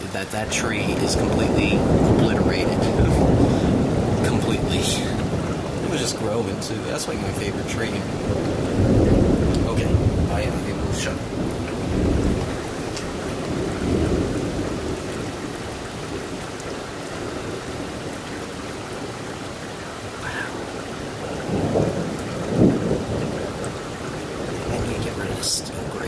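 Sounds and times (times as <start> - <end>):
rolling thunder: 0.0 - 26.0
steady rain falling: 0.0 - 26.0.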